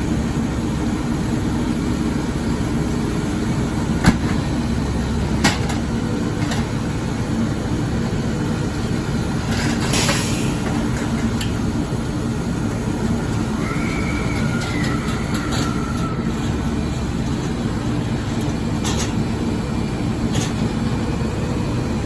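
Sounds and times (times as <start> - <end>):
garbage truck engine drone: 0.0 - 22.0.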